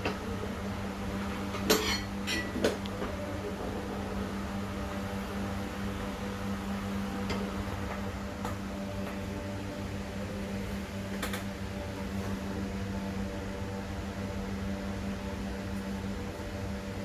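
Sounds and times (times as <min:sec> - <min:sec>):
low hum with fan hiss: 0:00.0 - 0:17.0.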